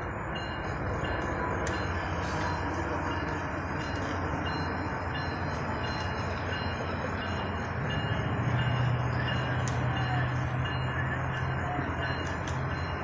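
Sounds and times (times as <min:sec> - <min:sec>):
distant diesel locomotives humming: 0:00.0 - 0:13.0.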